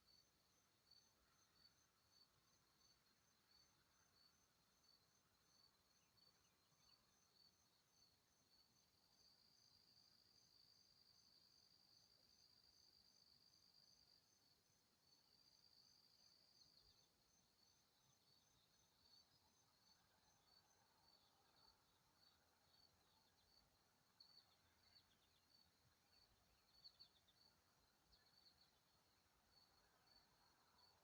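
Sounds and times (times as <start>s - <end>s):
insect chirping: 0.1s - 31.0s.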